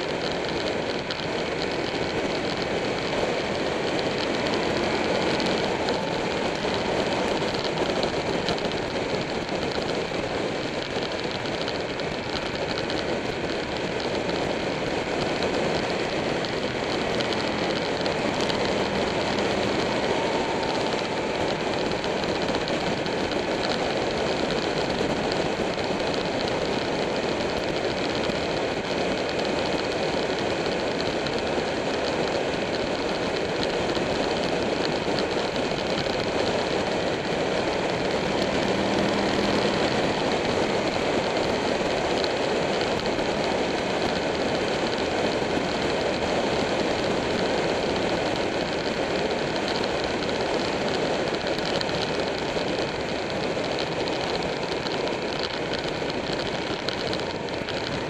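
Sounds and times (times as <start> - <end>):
motorcycle engine drone: 0.0 - 58.0
wind rush and road noise: 0.0 - 58.0.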